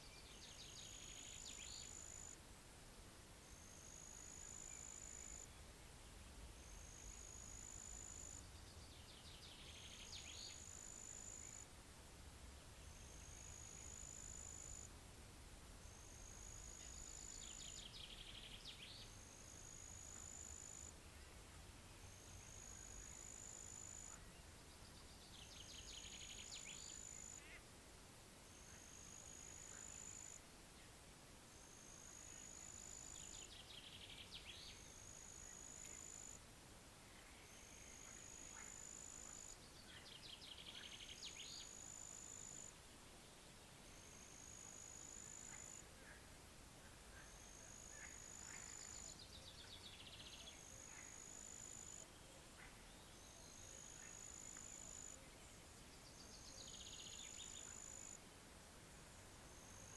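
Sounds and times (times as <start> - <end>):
insect high steady call: 0.0 - 2.4, 3.4 - 5.6, 6.6 - 8.5, 9.4 - 11.8, 12.9 - 14.9, 15.8 - 21.3, 21.9 - 24.4, 25.4 - 27.7, 28.4 - 30.5, 31.6 - 42.9, 43.8 - 59.9
faint wind hiss: 0.0 - 59.9.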